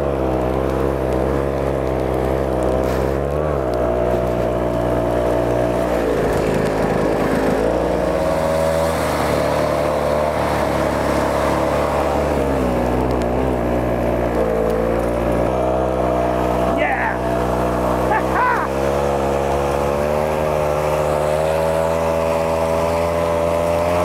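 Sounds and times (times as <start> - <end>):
small engine running under load: 0.0 - 24.0.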